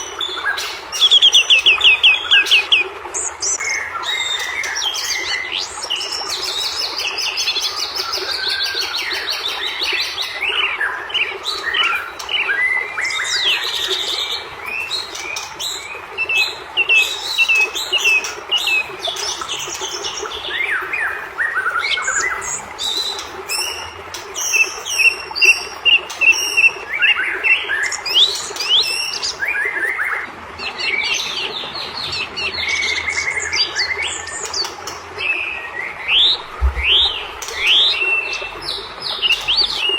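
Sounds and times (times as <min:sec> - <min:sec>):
bird singing: 0:00.0 - 0:30.2, 0:35.4 - 0:39.9.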